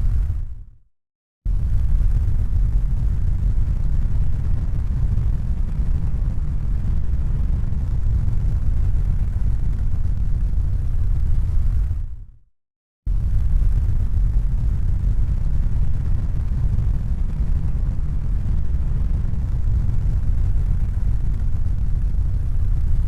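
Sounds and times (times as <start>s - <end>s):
deep rumbling noise: 1.5s - 12.0s, 13.1s - 23.0s.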